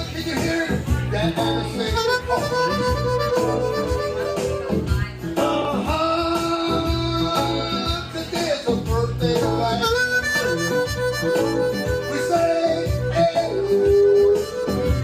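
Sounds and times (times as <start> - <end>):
guitar riff: 0.0 - 15.0
steady beat: 0.0 - 15.0
harmonica bending long notes: 1.1 - 8.3, 9.0 - 15.0.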